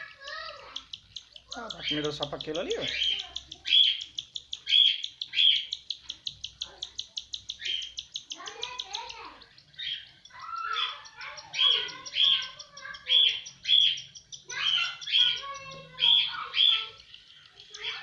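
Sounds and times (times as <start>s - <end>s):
cockatiel chicks chittering: 0.0s - 18.0s
raspy bird calls: 0.0s - 18.0s.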